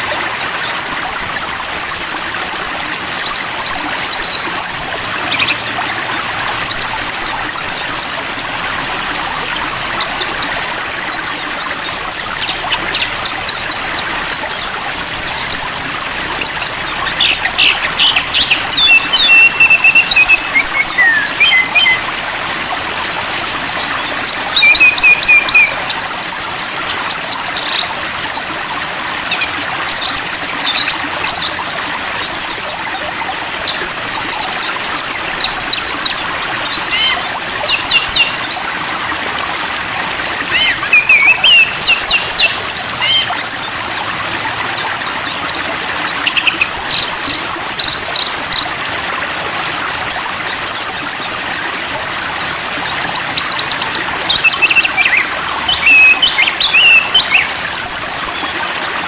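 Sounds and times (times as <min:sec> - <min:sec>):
songbirds whistling and chirping: 0:00.0 - 0:38.8, 0:40.2 - 0:48.8, 0:50.0 - 0:59.0
running water: 0:00.0 - 0:59.0.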